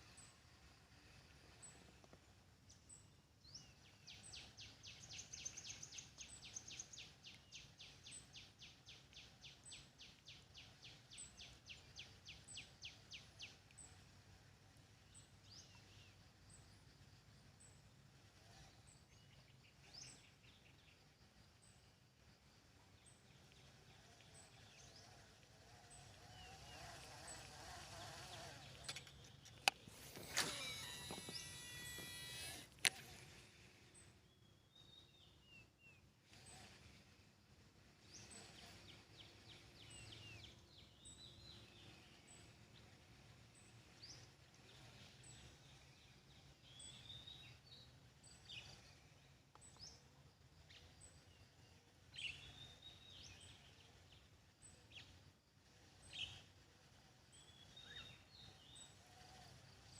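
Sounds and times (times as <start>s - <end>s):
faint birdsong: 0.0s - 59.9s.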